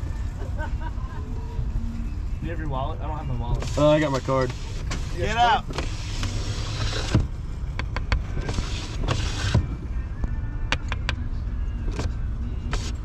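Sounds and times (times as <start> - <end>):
music playing: 0.0 - 13.0
vehicle idling: 0.0 - 13.0.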